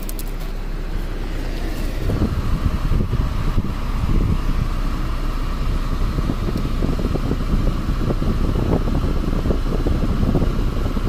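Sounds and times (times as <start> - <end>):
air rushing from vents: 0.0 - 11.0
car engine running: 0.0 - 11.0.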